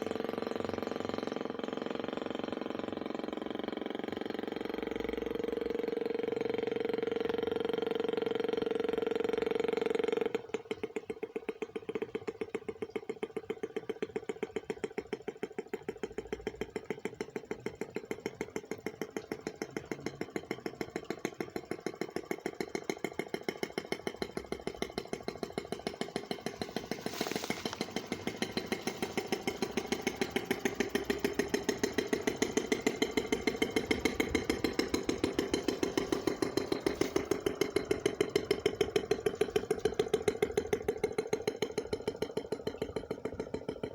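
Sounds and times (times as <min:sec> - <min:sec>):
small gas engine running: 0:00.0 - 0:43.9.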